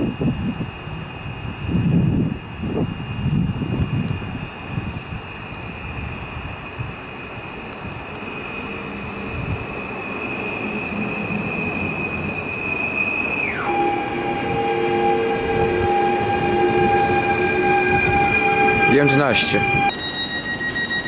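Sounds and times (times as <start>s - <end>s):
electric train pulling in: 0.0s - 21.0s
high whine dropping in pitch: 0.0s - 21.0s.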